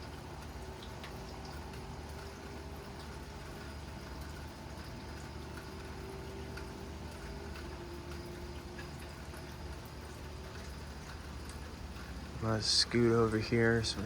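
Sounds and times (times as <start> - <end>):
faint steady hum: 0.0 - 14.0
steady rain falling: 0.0 - 14.0.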